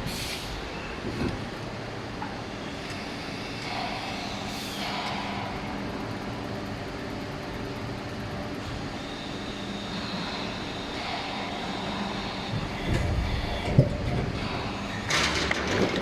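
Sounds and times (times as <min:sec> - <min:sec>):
injection moulding machine hum: 0:00.6 - 0:16.0.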